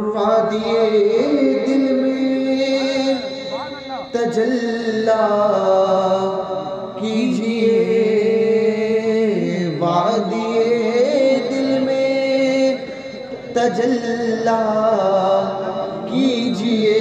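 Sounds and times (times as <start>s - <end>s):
person chanting devotional poem: 0.0s - 17.0s.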